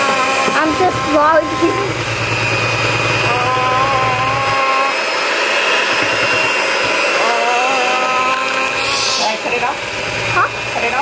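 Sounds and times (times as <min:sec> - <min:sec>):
electric hand mixer whirring: 0:00.0 - 0:11.0.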